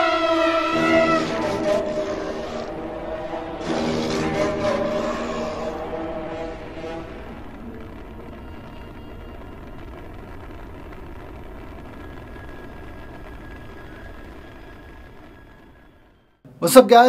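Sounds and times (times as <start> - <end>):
spaceship engine rumble: 0.0 - 16.0.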